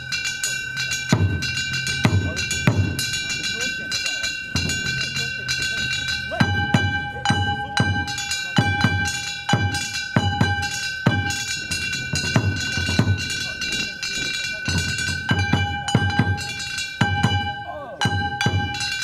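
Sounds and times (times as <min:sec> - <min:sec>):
metal hand gongs clanging: 0:00.0 - 0:19.0
taiko drum booms: 0:01.0 - 0:03.6, 0:04.5 - 0:19.0.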